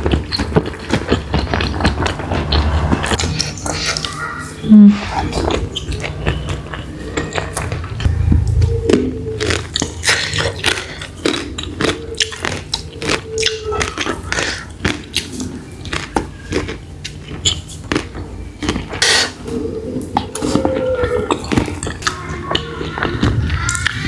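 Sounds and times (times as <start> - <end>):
chewing mushrooms: 0.0 - 24.0.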